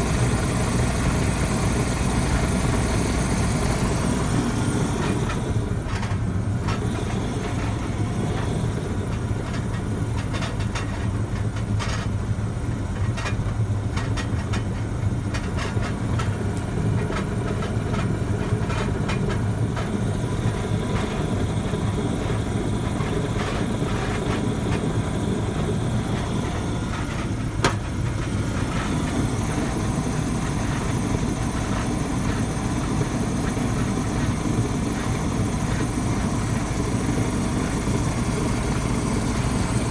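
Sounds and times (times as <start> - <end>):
furnace burner rumbling: 0.0 - 39.9.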